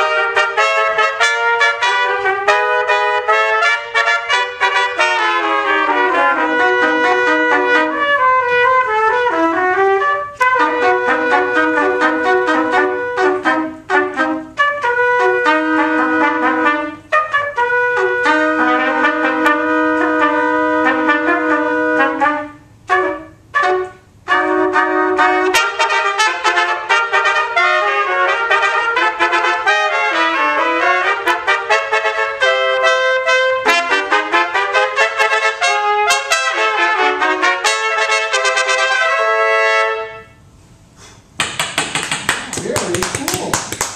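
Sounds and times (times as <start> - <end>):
trumpets playing in harmony: 0.0 - 40.5.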